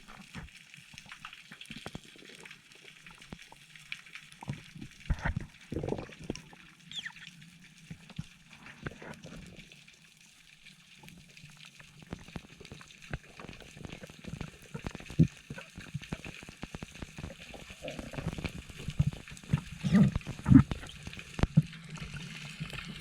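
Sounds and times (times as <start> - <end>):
clicks and crackles: 0.0 - 23.0
underwater water movement: 0.0 - 23.0.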